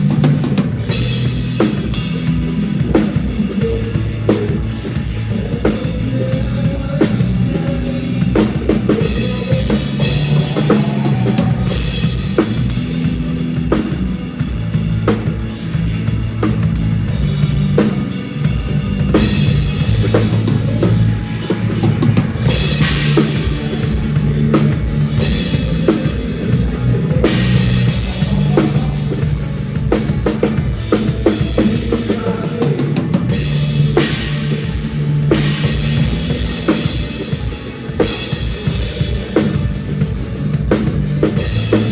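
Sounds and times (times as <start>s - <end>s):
bass line: 0.0s - 41.9s
drum kit beat: 0.0s - 41.9s
instrumental band music: 0.0s - 41.9s.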